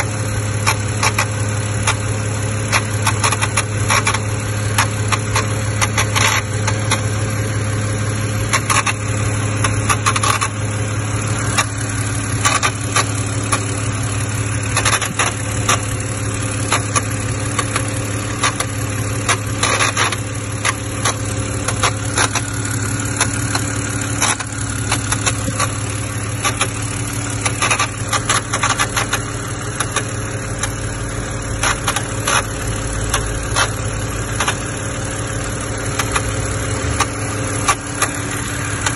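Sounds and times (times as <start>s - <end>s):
car engine idling: 0.0s - 38.9s
engine clicks and ticks: 0.0s - 38.9s.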